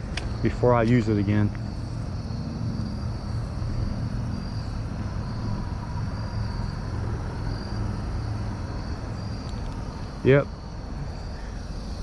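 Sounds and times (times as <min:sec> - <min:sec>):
crickets trilling: 0:00.0 - 0:12.0
low outdoor rumble: 0:00.0 - 0:12.0.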